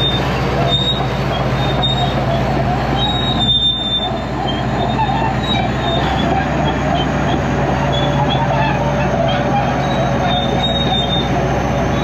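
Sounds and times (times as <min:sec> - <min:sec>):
diesel engine running: 0:00.0 - 0:12.0
steel tracks squealing: 0:00.0 - 0:12.0.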